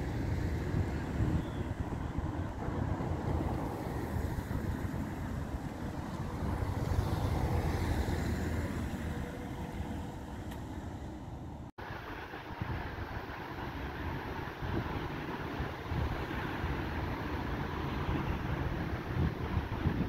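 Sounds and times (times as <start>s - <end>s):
distant tram passing: 0.0s - 20.0s
street traffic: 0.0s - 20.0s
wind rumbling on microphone: 0.0s - 20.0s.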